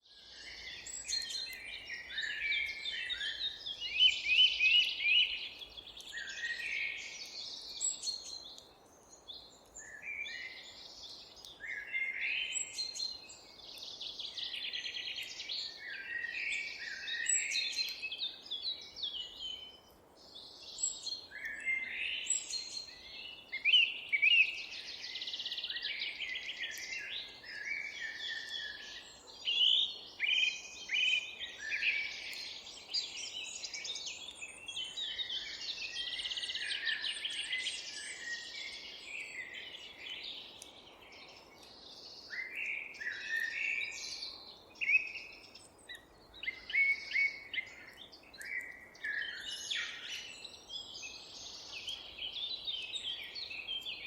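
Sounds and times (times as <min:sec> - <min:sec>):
songbirds chirping: 0:00.0 - 0:54.0
faint background noise: 0:00.1 - 0:54.0.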